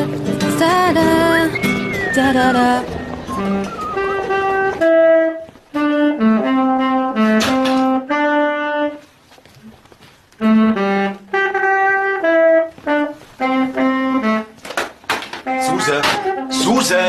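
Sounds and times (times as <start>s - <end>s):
saxophone playing held notes: 1.0s - 9.1s, 10.3s - 14.6s, 15.4s - 17.0s.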